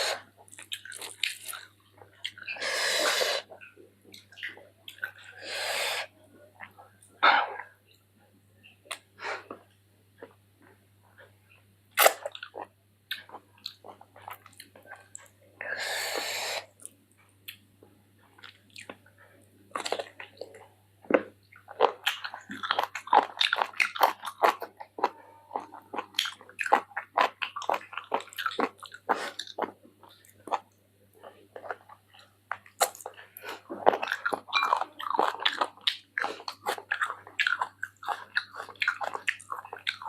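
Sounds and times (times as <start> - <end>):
person chewing food: 0.0 - 7.8, 8.8 - 40.0.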